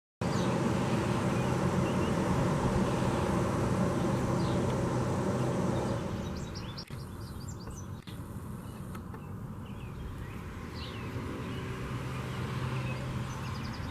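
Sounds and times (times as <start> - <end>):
small birds chirping: 0.2 - 13.9.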